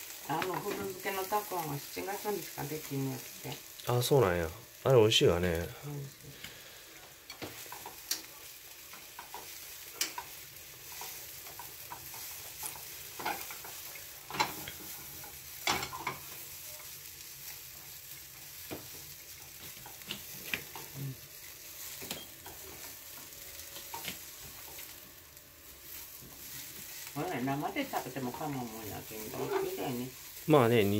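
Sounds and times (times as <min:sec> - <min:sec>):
carrots sizzling in oil: 0:00.0 - 0:30.9.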